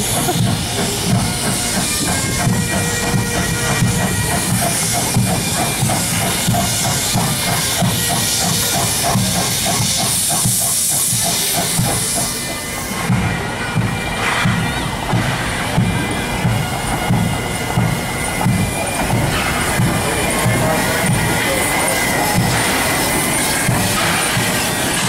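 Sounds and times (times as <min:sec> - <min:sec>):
locomotive exhaust beats: 0:00.0 - 0:25.0
steam hissing from locomotive: 0:00.0 - 0:25.0.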